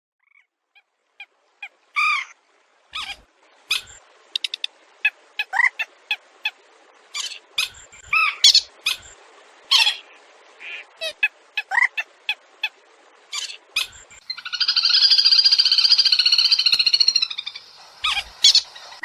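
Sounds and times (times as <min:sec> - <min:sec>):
waterbirds squawking and clicking: 0:00.2 - 0:19.0.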